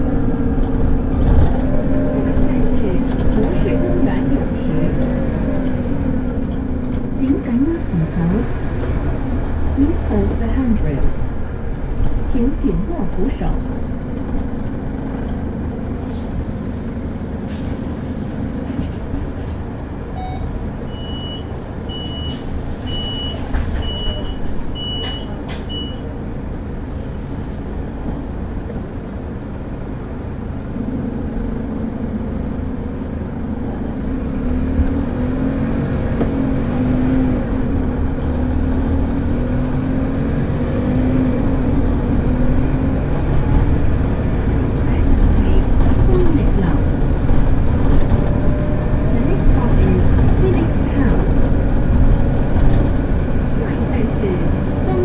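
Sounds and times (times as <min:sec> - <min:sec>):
bus diesel engine under load: 0:00.0 - 0:55.0
road noise: 0:00.0 - 0:55.0.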